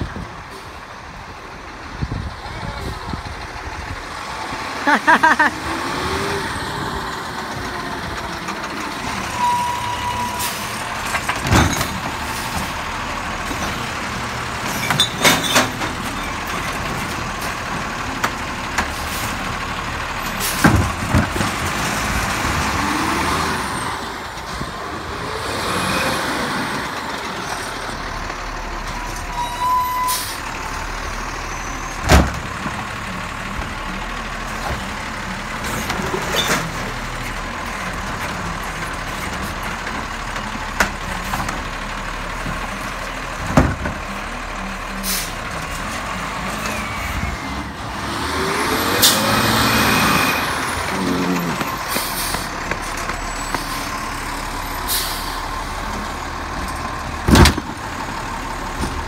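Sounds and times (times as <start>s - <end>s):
garbage truck running: 0.0s - 59.0s.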